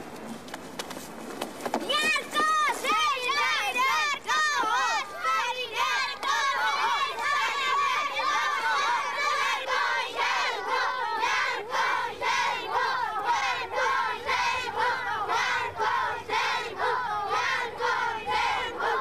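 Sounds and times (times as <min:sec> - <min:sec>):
crowd shouting and yelling: 0:01.9 - 0:19.0.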